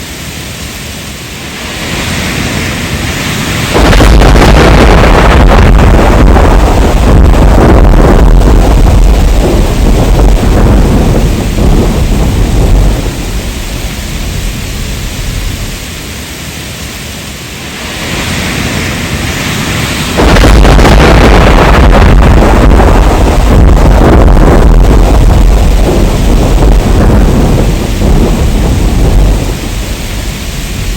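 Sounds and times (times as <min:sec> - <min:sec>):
heavy rain: 0:00.0 - 0:30.9
thunder rumble: 0:01.4 - 0:16.3, 0:17.5 - 0:30.9.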